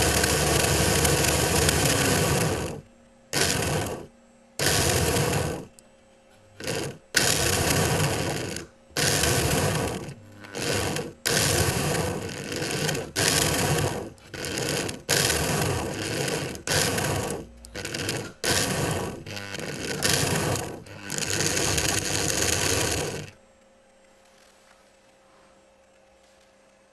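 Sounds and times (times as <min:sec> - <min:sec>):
model locomotive motor and gears: 0:00.0 - 0:05.8, 0:06.6 - 0:23.4
faint steady hum: 0:00.0 - 0:26.9.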